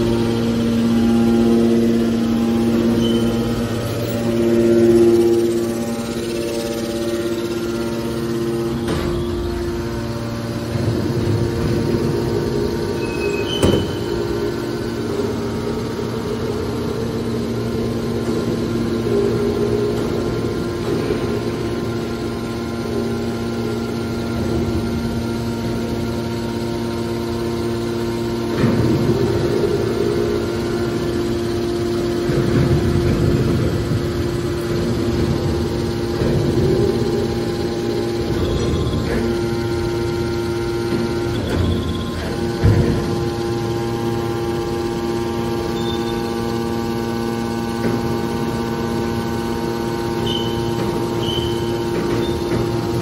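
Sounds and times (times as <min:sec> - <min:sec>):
hydraulic pump motor humming: 0:00.0 - 0:53.0.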